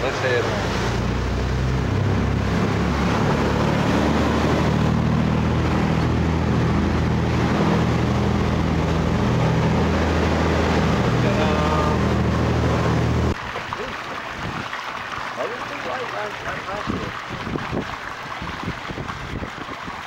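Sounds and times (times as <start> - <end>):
boat engine droning: 0.0 - 18.1.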